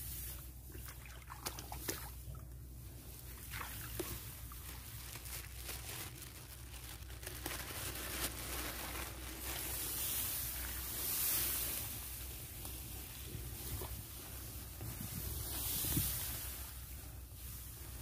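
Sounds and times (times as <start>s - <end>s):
dry stalks rustling and crackling: 0.0s - 18.0s
steady low hum: 0.0s - 18.0s.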